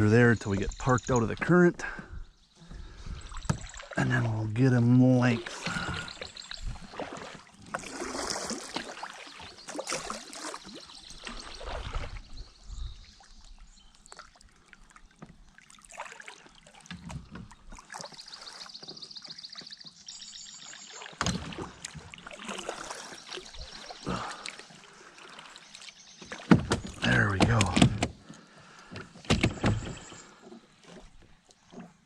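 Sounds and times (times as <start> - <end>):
water splashing and sloshing: 2.6 - 32.0.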